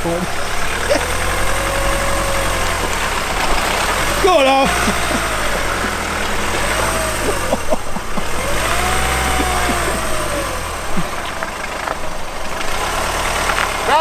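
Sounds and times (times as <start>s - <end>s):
car engine revving under load: 0.0s - 14.0s.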